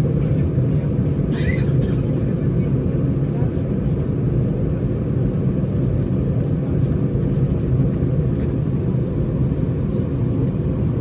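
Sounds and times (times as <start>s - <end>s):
airliner engines rumbling in cabin: 0.0s - 11.0s.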